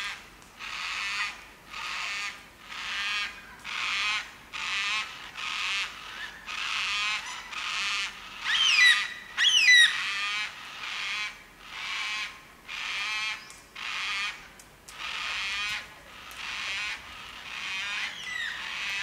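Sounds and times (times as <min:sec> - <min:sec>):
cockatoos calling: 0:00.0 - 0:19.0.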